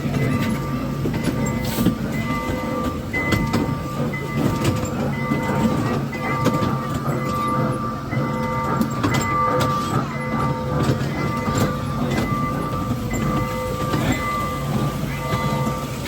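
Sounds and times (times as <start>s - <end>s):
ride train rumbling: 0.0s - 16.0s.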